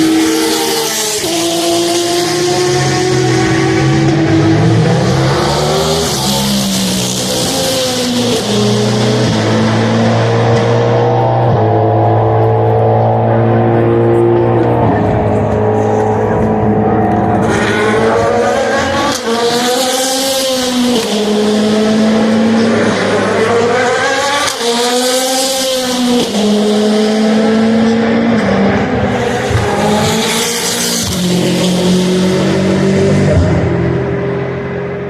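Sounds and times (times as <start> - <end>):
race car engines passing: 0.0 - 35.0.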